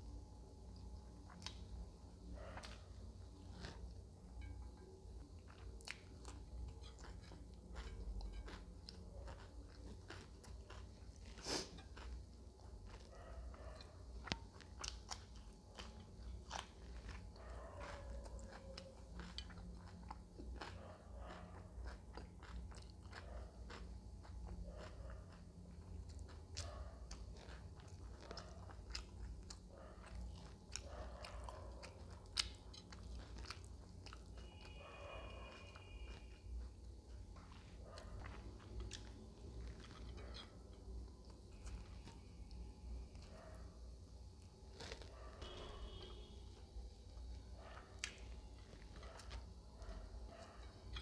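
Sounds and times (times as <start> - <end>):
person chewing and crunching food: 0.0 - 51.0.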